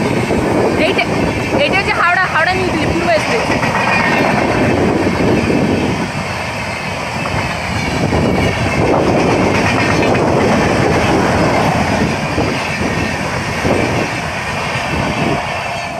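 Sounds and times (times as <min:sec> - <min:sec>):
train rumbling on track: 0:00.0 - 0:15.9.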